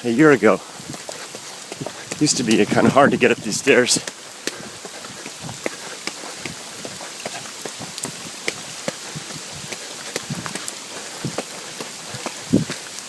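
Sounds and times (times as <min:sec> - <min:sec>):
heavy rain hissing: 0:00.0 - 0:13.0
raindrops ticking on microphone: 0:00.0 - 0:13.0.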